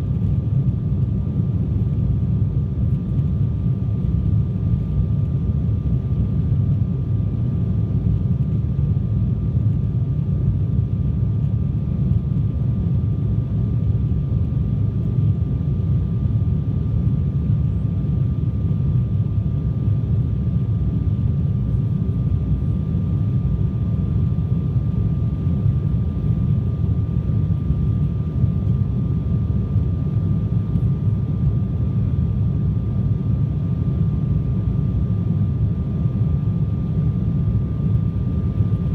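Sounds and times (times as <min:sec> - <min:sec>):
jet engines in flight: 0:00.0 - 0:38.9.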